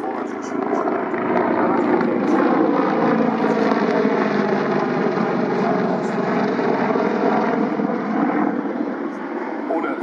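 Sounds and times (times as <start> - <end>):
helicopter rotor and engine noise: 0.0 - 10.0.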